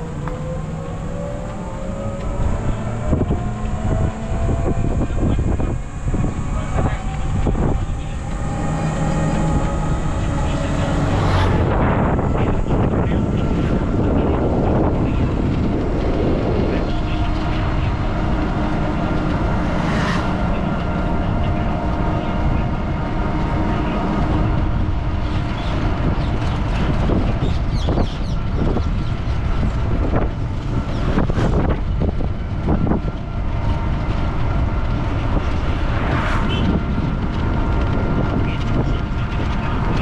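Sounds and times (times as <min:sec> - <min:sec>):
road and wind rumble: 0:00.0 - 0:40.0.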